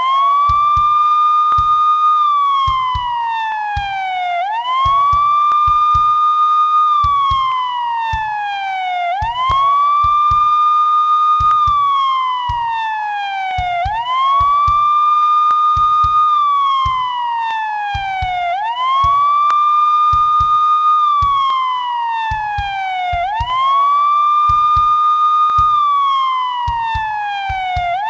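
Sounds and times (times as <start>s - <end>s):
police siren wailing: 0.0s - 28.0s.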